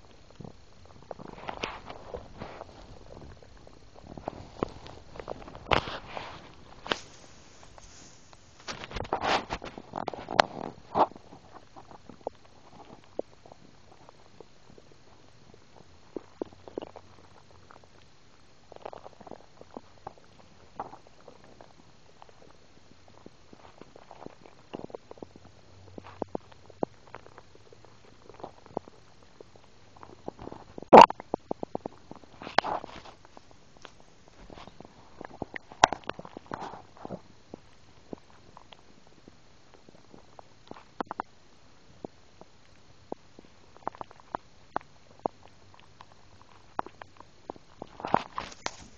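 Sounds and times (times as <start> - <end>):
stomach gurgling: 0.0 - 48.9.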